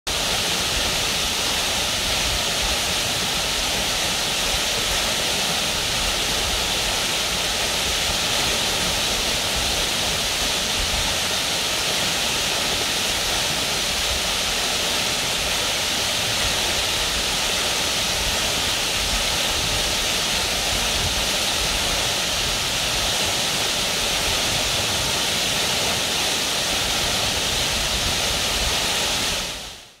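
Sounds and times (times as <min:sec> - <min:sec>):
waterfall pouring: 0:00.1 - 0:29.6.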